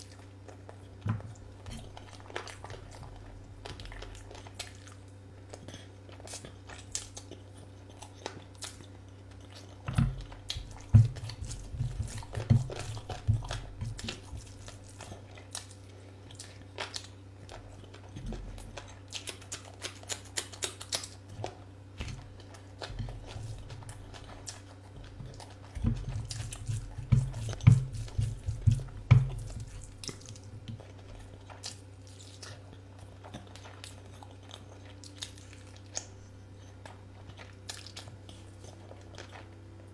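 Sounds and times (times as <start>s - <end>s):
faint low hum: 0.0s - 39.9s
person chewing food: 0.0s - 39.9s.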